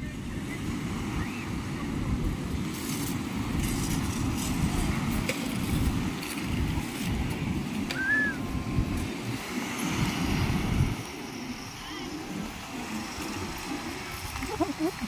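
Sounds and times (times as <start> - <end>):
wind buffeting microphone: 0.0 - 15.0
waves breaking on pebbles: 0.5 - 15.0.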